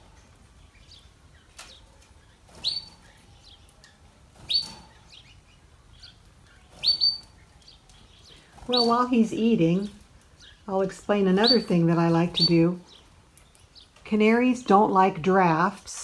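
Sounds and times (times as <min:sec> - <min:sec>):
canaries chirping: 0:00.0 - 0:15.7.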